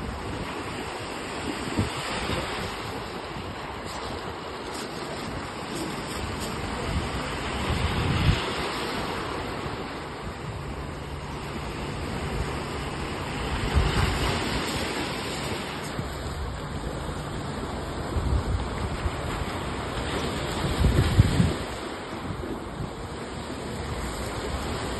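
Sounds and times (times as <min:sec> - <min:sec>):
small waves breaking on sand: 0:00.0 - 0:24.9
wind rumbling on microphone: 0:00.0 - 0:24.9.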